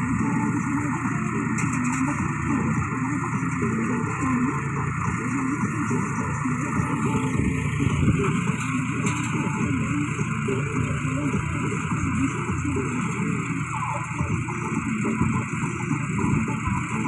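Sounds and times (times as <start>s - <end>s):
baler machinery working: 0.0s - 17.0s
tractor diesel engine running: 0.0s - 17.0s.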